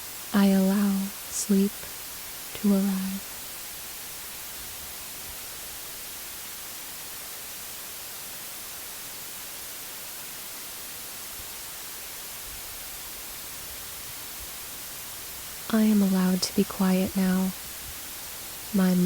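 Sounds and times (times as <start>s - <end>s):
white noise hiss: 0.0s - 19.0s.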